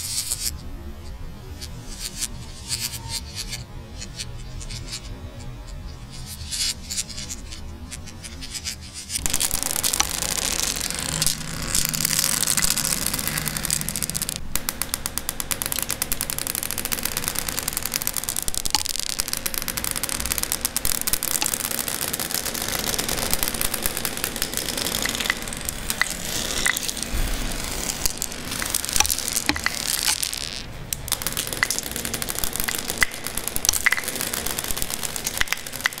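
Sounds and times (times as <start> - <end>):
marbles clicking together: 0.0 - 0.6, 1.6 - 5.1, 6.1 - 36.0
marbles rolling on hard floor: 0.0 - 0.6, 6.2 - 36.0.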